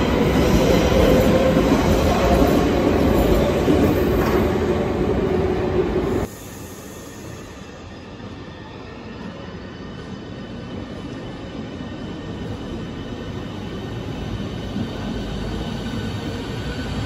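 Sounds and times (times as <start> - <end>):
electric train running past: 0.0 - 17.0
train pulling into platform: 0.0 - 17.0.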